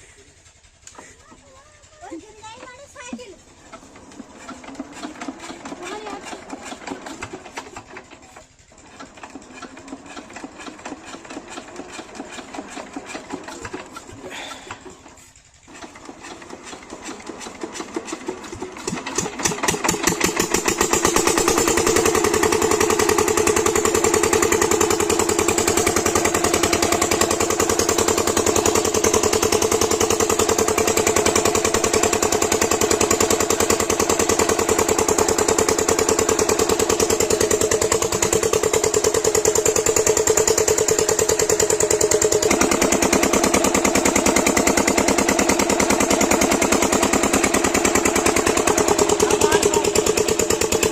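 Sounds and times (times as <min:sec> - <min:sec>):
diesel water pump engine running: 0:00.0 - 0:50.9.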